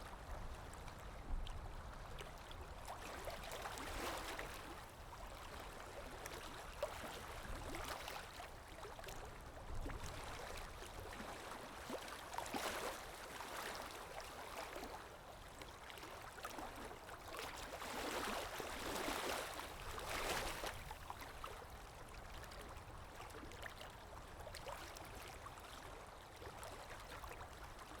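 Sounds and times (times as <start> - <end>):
small waves lapping: 0.0 - 28.0
wind: 0.0 - 28.0.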